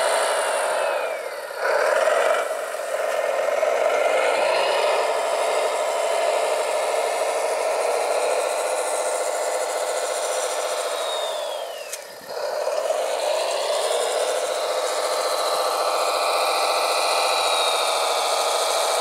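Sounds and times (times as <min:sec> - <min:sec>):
electric motors whirring: 0:00.0 - 0:19.0.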